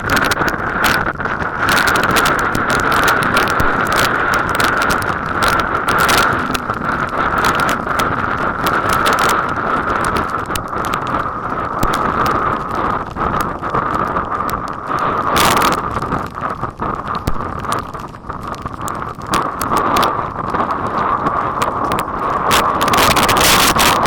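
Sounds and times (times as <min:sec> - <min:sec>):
wind on microphone: 0:00.0 - 0:24.0.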